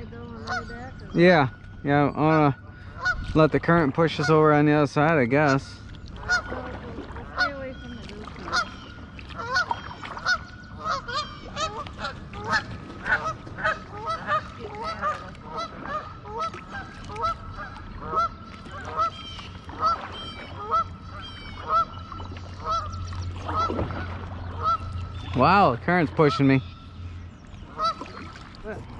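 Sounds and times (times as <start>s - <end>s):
geese honking: 0.2s - 3.3s, 4.0s - 4.6s, 5.4s - 28.5s.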